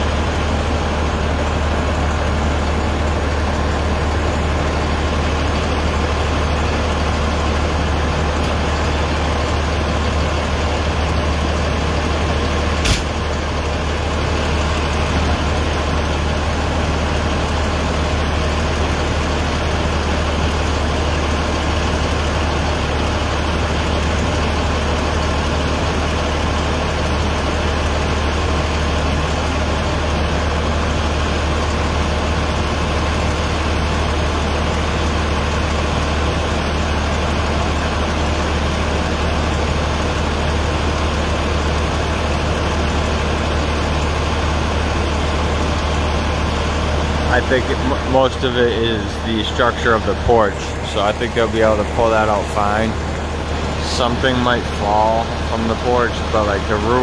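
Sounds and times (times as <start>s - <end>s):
heavy vehicle engine idling: 0.0s - 57.0s.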